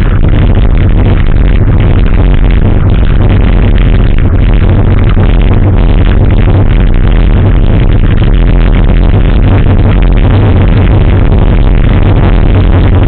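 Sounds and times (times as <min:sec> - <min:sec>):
electronic dance music with heavy bass: 0:00.0 - 0:13.0.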